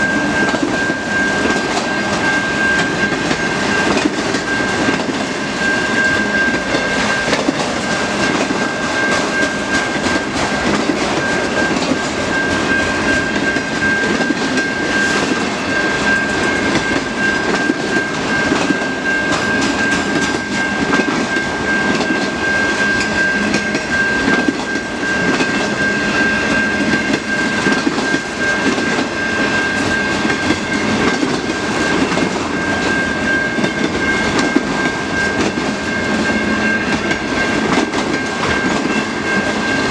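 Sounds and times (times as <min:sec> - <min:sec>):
freight train wheels clattering: 0:00.0 - 0:39.9
steady high-pitched tone: 0:00.0 - 0:39.9.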